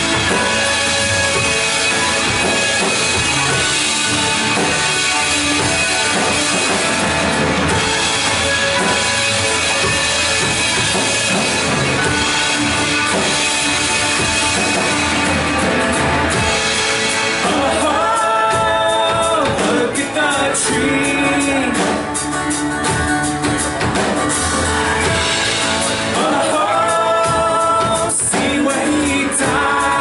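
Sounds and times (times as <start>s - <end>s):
drum kit: 0.0s - 30.0s
live band playing: 0.0s - 30.0s.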